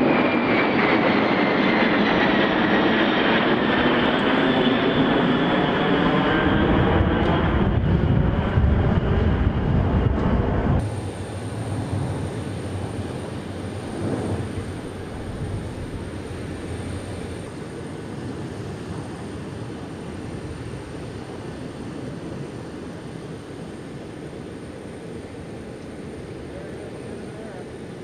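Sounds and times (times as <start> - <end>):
jet aircraft drone: 0.0 - 28.0.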